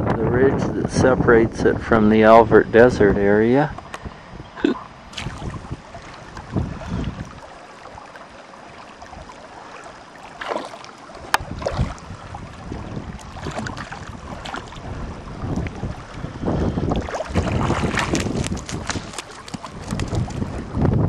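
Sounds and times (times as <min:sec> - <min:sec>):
wind gusting over the microphone: 0:00.0 - 0:21.0.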